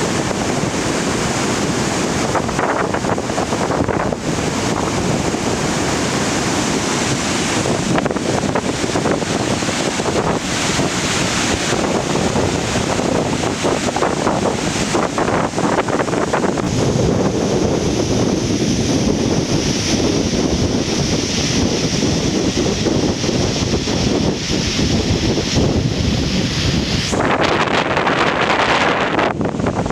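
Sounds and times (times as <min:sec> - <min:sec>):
waterfall rushing: 0:00.0 - 0:29.9
wind buffeting microphone: 0:00.0 - 0:29.9.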